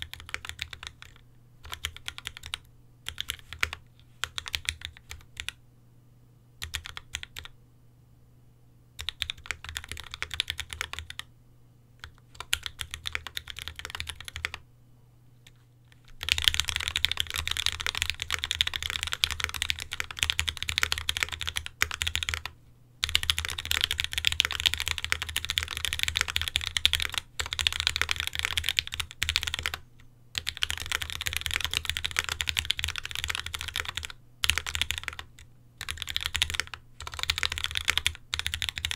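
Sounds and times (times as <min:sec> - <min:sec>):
mechanical keyboard typing: 0:00.0 - 0:05.6, 0:06.6 - 0:07.5, 0:09.0 - 0:11.3, 0:12.0 - 0:14.6, 0:15.9 - 0:29.8, 0:30.4 - 0:38.9.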